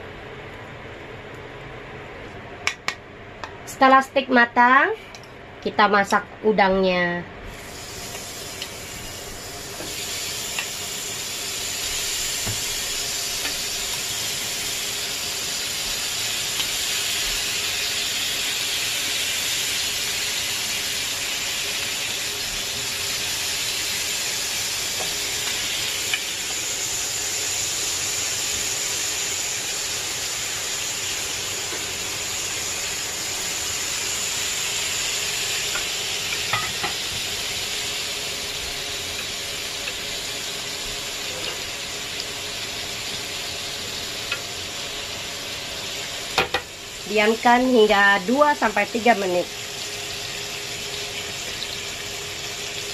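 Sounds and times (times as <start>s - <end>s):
shrimp sizzling on grill pan: 7.5s - 52.9s.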